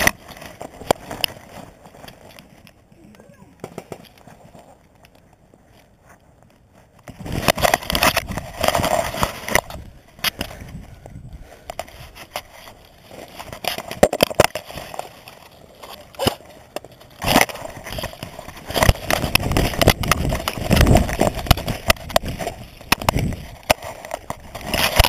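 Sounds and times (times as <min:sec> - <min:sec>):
crunching rumbling movement noise: 0:00.0 - 0:25.0.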